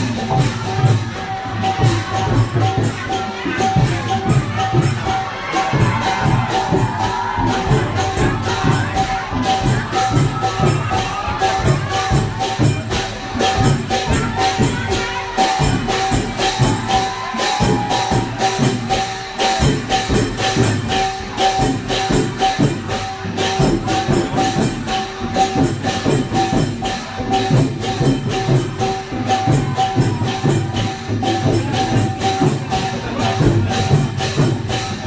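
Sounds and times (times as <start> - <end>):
fast percussion beat: 0.0 - 35.0
jingling percussion: 0.0 - 35.0.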